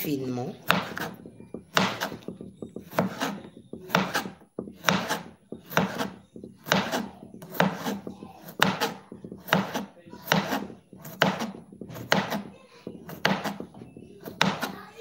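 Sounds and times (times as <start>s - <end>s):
knife chopping on cutting board: 0.6s - 15.0s.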